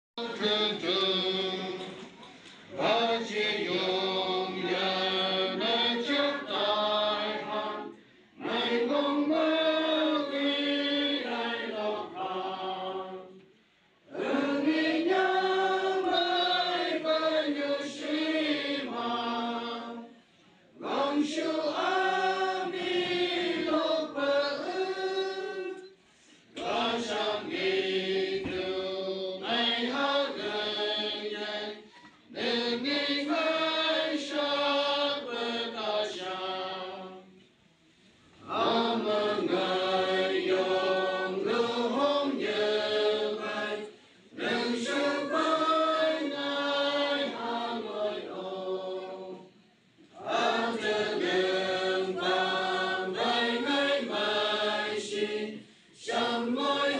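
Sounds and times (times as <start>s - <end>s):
congregation singing a hymn: 0.2s - 37.4s, 38.3s - 56.9s.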